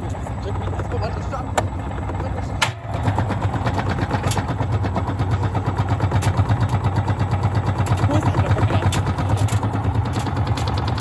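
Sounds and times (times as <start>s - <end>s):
washing machine pulsing drone: 0.0s - 11.0s.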